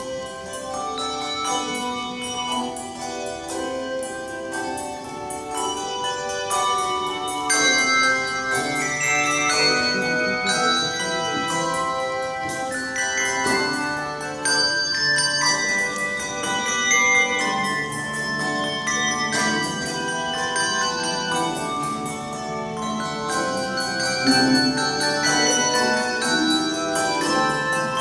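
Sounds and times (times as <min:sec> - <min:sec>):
handbell choir playing: 0:00.0 - 0:28.0.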